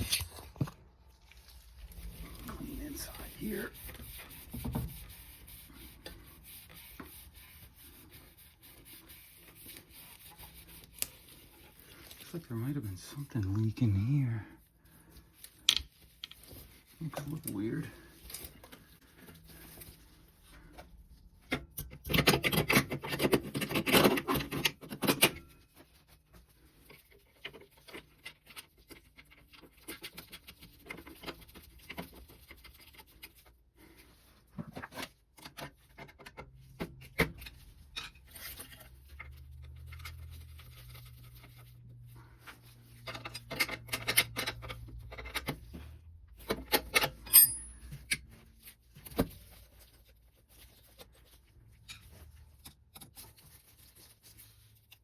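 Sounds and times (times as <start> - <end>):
rubbing and scraping on metal: 1.5 - 55.0.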